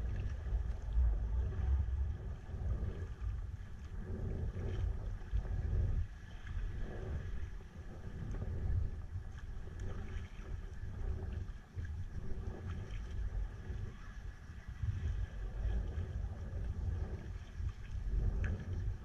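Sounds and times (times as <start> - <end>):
water splashing around kayak: 0.0 - 19.0
wind buffeting microphone: 0.0 - 19.0.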